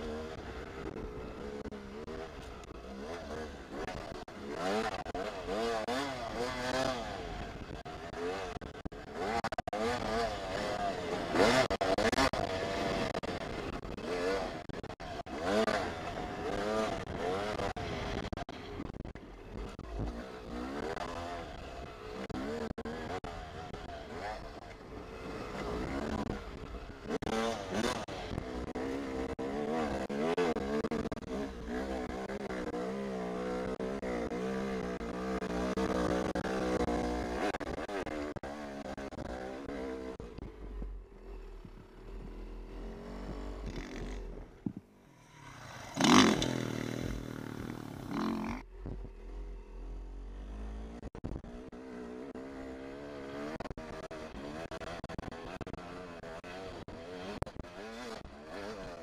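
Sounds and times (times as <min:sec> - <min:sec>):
dirt bike engine revving: 0:00.0 - 0:18.7, 0:19.4 - 0:40.4, 0:41.2 - 0:48.8, 0:49.6 - 0:59.0.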